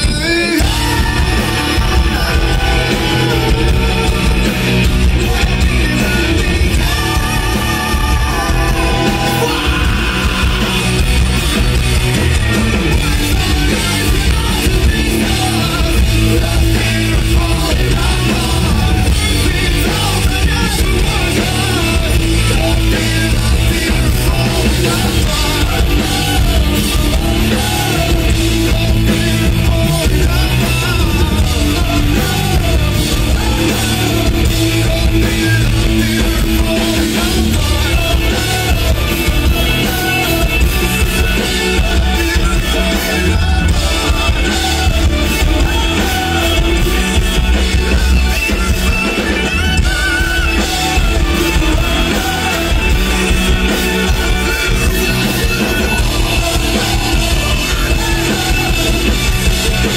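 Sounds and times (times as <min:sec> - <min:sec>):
bass guitar: 0:00.0 - 0:59.9
drum kit: 0:00.0 - 0:59.9
electric guitars: 0:00.0 - 0:59.9
person singing: 0:00.0 - 0:59.9.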